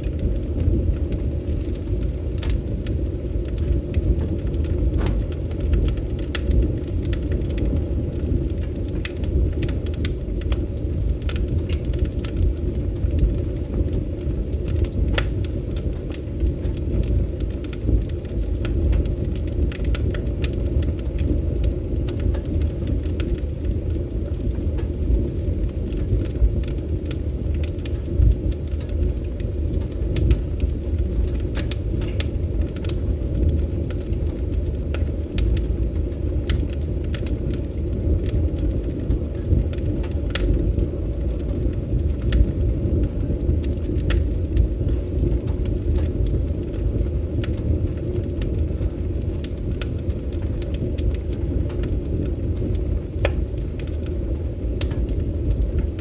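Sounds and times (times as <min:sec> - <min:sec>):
fire crackles and pops: 0:00.0 - 0:56.0
wood fire burning: 0:00.0 - 0:56.0.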